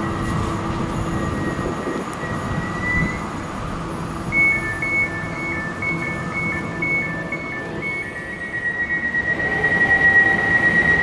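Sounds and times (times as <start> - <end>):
electric train running: 0.0 - 11.0.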